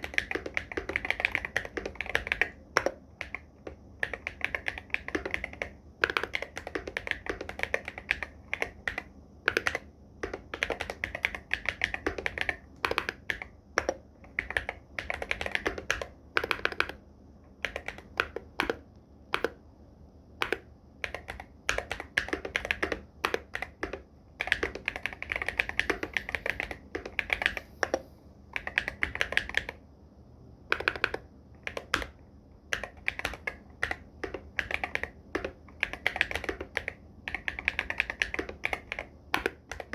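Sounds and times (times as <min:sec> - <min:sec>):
mechanical keyboard typing: 0:00.0 - 0:19.6, 0:20.4 - 0:29.8, 0:30.7 - 0:39.9.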